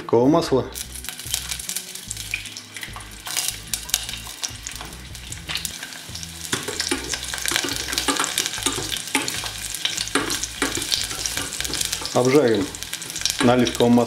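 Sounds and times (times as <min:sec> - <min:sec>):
garlic sizzling in hot oil: 0:00.7 - 0:14.0
tongs stirring in a pan: 0:01.0 - 0:14.0.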